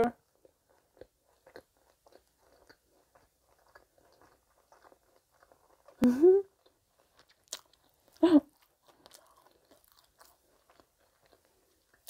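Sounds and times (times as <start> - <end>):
chewing with small crunches: 0.1 - 12.0.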